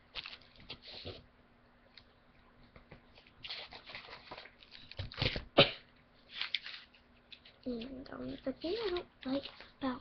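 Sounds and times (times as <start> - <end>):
rustling and handling noises: 0.0 - 5.6, 6.2 - 10.0.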